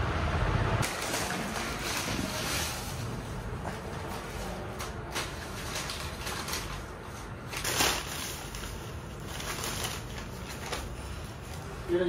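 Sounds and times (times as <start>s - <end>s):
plastic bag rustling and crinkling: 0.8s - 12.0s.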